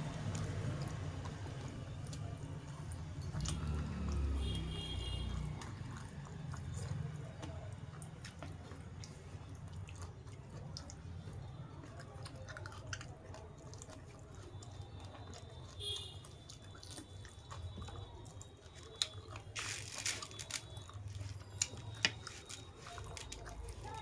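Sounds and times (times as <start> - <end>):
person chewing and crunching food: 0.0 - 24.0.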